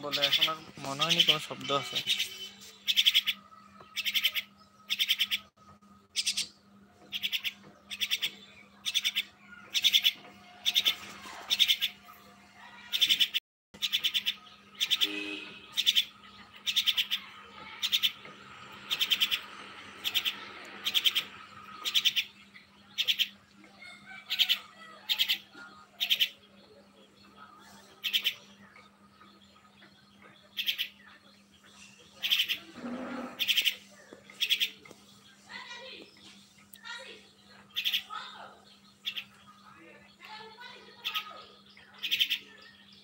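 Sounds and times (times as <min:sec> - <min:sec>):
bird chirping: 0:00.0 - 0:12.1, 0:12.8 - 0:43.0.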